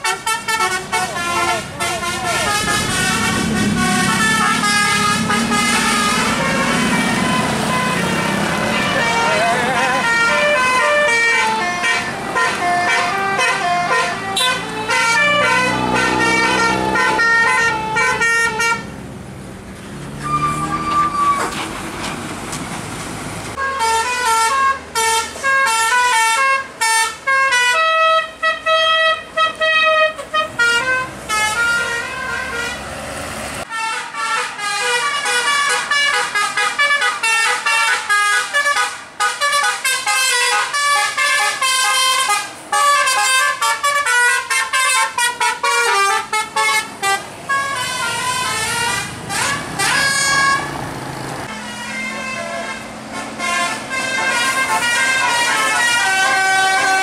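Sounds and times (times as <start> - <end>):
multi-tone bus horns playing tunes: 0.0 - 19.0, 20.2 - 21.6, 23.5 - 57.0.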